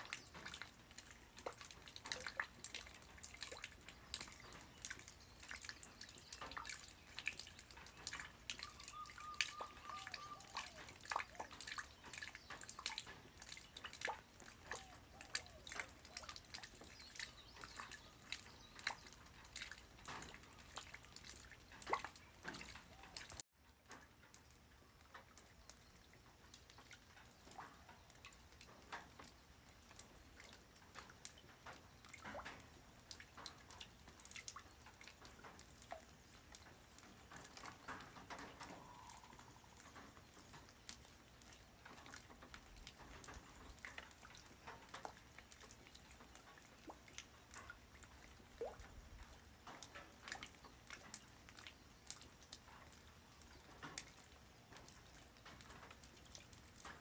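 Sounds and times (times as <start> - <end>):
light rain dripping: 0.0 - 57.0.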